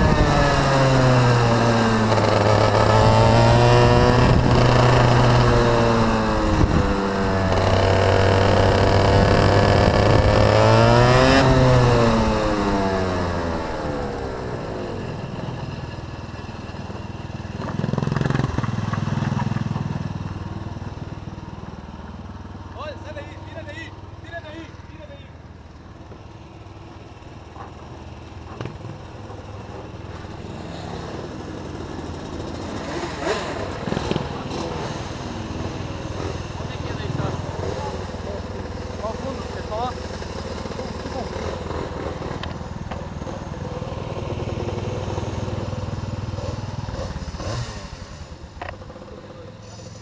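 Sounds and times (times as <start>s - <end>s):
kart engines running: 0.0s - 50.0s.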